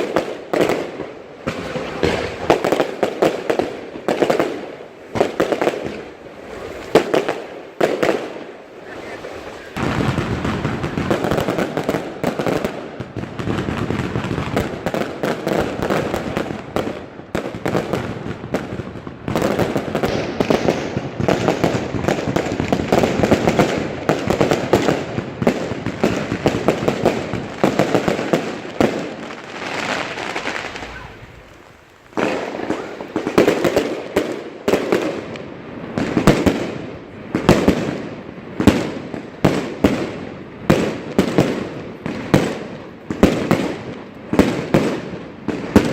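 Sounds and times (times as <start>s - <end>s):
fireworks and firecrackers: 0.0s - 45.9s.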